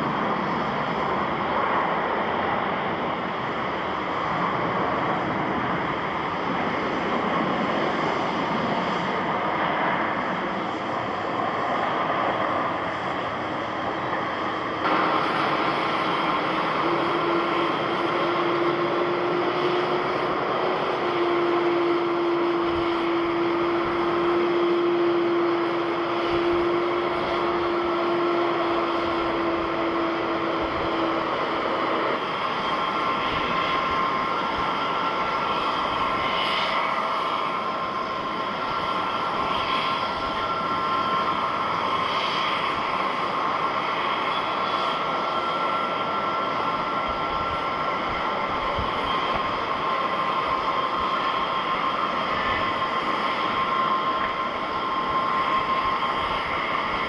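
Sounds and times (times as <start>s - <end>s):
jet airliner engines running: 0.0s - 57.0s.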